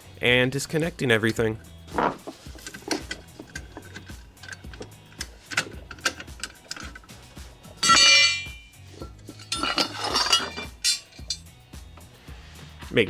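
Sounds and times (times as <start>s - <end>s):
background music: 0.0s - 13.0s
metal rattle: 0.7s - 12.1s.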